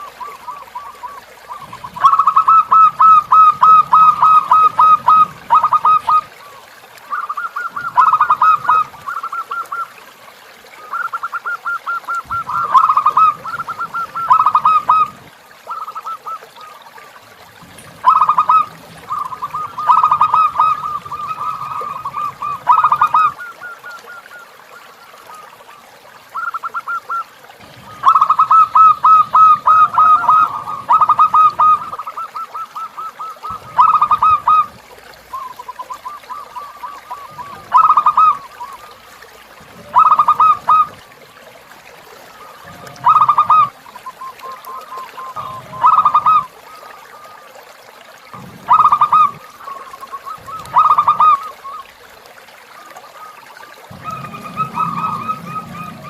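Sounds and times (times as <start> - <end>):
dove cooing: 0.0 - 9.9, 10.9 - 16.7, 17.6 - 24.4, 26.4 - 39.0, 39.6 - 41.2, 42.2 - 47.5, 48.4 - 51.9, 53.2 - 56.0.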